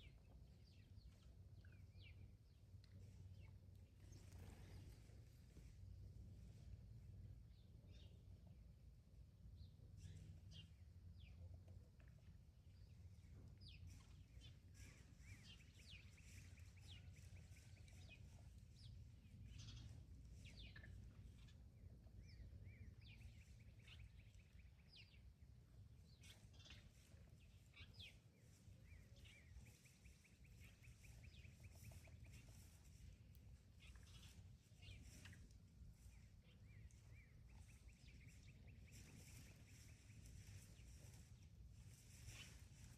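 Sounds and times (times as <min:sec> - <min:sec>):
birds chirping and trilling: 0:00.0 - 0:05.7, 0:09.6 - 0:42.9
low outdoor rumble: 0:00.0 - 0:42.9.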